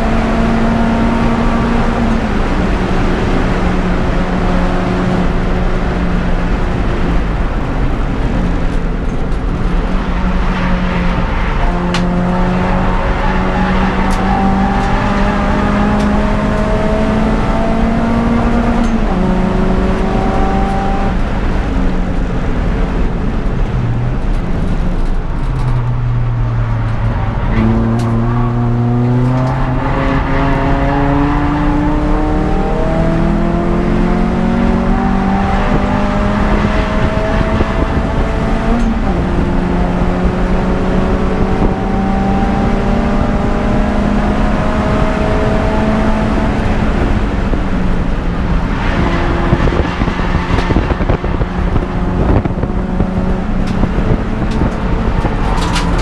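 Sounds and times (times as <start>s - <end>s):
car engine revving under load: 0.0s - 56.0s
road and wind noise: 0.0s - 56.0s.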